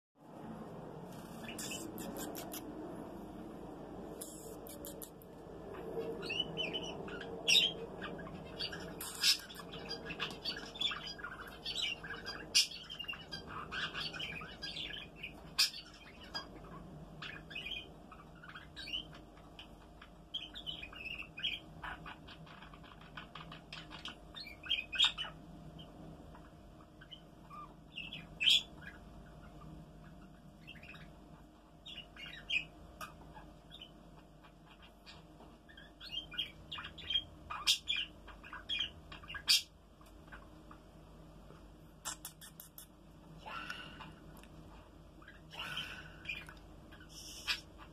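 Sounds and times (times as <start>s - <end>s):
canary chirping: 1.1s - 2.7s, 4.2s - 41.3s, 42.0s - 47.9s.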